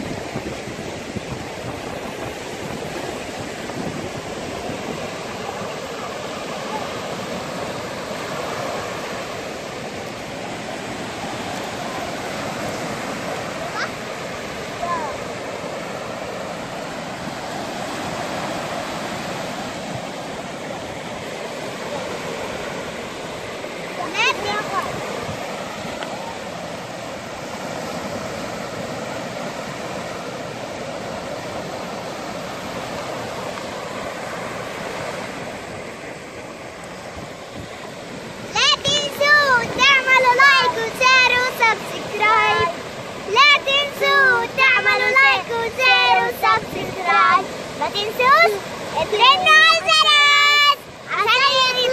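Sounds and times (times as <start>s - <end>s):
waves washing up beach: 0.0s - 51.9s.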